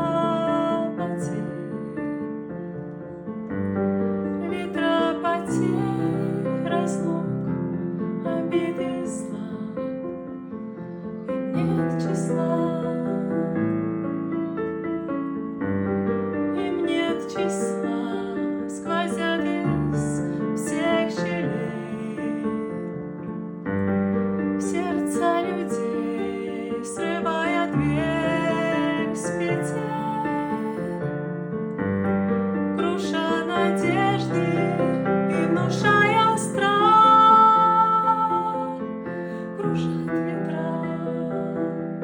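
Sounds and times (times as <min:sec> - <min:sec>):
gentle piano music: 0:00.0 - 0:42.0.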